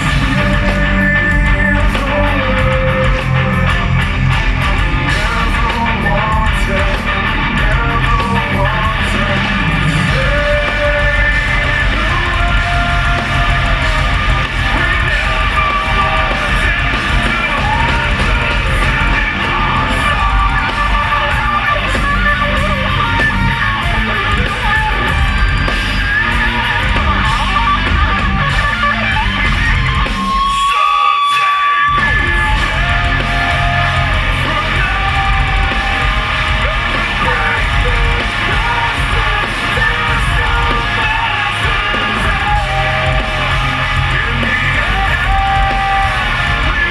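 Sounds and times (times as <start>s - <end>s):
heavy metal band playing: 0.0s - 46.9s
shouted and sung vocal: 5.0s - 28.8s, 29.4s - 46.9s.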